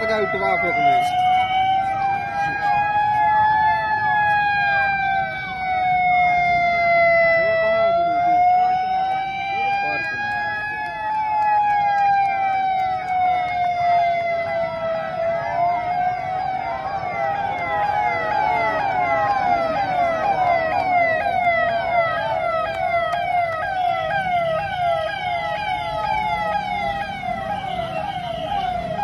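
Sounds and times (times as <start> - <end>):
siren fast yelp: 0.0 - 29.0
siren wavering wail: 0.0 - 29.0.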